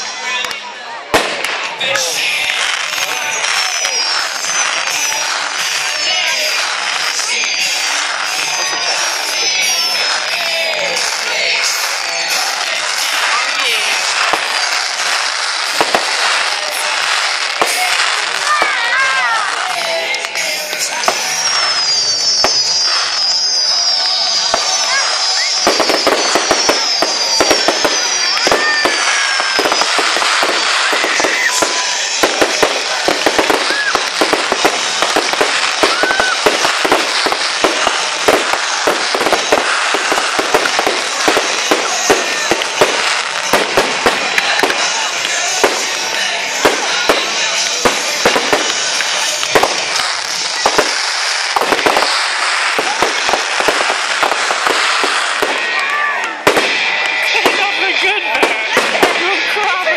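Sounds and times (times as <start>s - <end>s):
fireworks crackling and banging: 0.0s - 59.9s
fireworks whistles: 1.1s - 59.8s.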